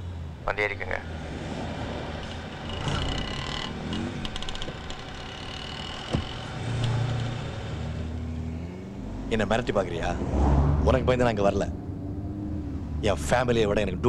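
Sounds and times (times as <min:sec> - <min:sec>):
car engine and tyres rumbling: 0:00.0 - 0:14.0
city road traffic: 0:00.0 - 0:14.0.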